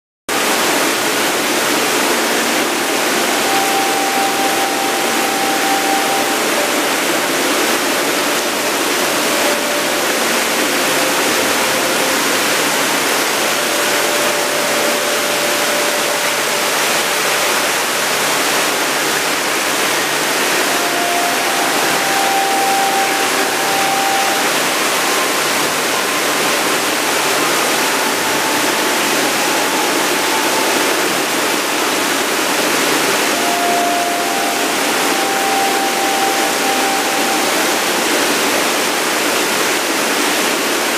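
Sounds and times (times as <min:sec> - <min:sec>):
faint long held notes: 0:00.9 - 0:40.1.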